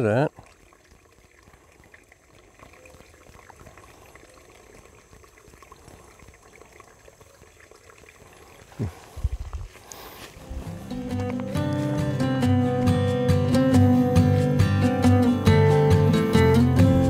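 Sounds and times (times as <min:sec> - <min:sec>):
creek trickling over sticks: 0:00.0 - 0:16.5.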